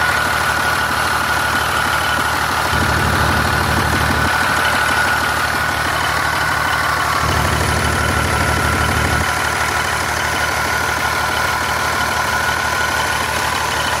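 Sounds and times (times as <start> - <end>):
diesel engine idling: 0.0 - 14.0
steady whine: 0.0 - 14.0.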